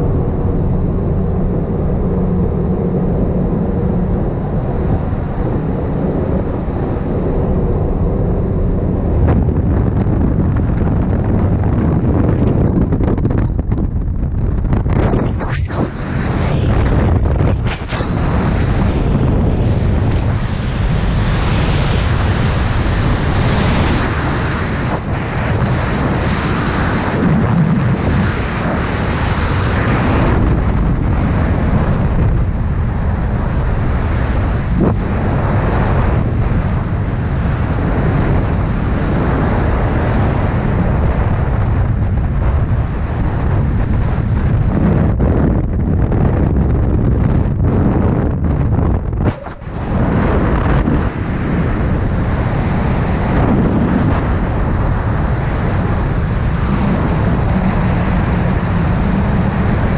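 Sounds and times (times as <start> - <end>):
wind roar over microphone: 0.0 - 59.9.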